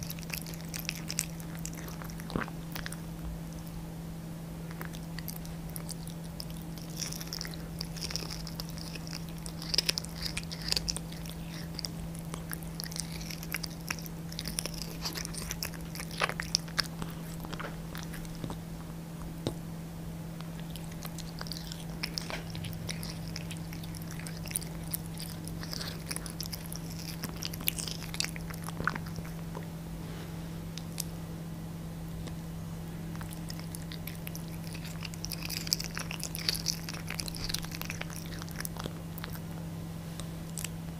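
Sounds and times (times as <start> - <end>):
wet smacking and crunching clicks: 0.0 - 3.7, 4.7 - 18.6, 20.4 - 29.7, 33.1 - 39.7
cat chewing meat: 0.0 - 3.8, 4.6 - 19.7, 20.3 - 31.2, 32.1 - 40.9
low hum: 0.0 - 40.9.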